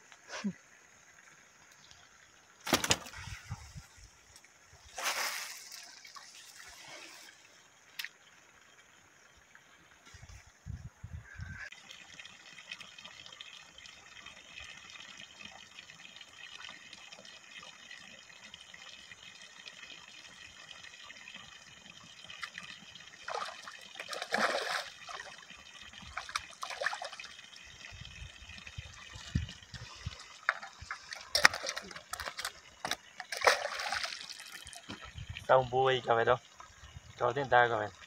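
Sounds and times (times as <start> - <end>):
water splashing in a pond: 0.0 - 38.0.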